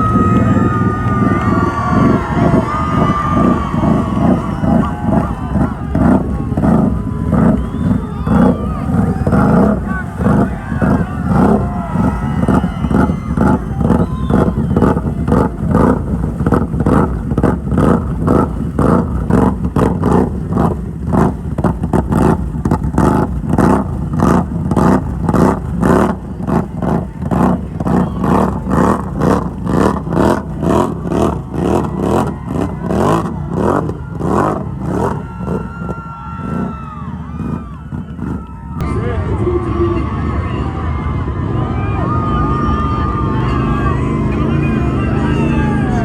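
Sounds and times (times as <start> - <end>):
atv engine revving: 0.0 - 39.2.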